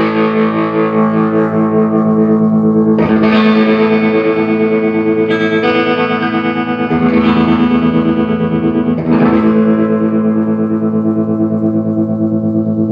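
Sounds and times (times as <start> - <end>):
overdriven electric guitar chords: 0.0 - 12.9.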